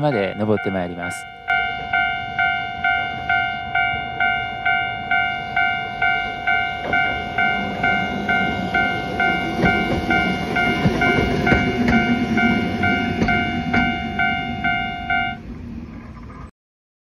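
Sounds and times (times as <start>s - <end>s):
level-crossing warning bell ringing: 0.0s - 15.5s
tram rumbling past: 0.0s - 16.5s.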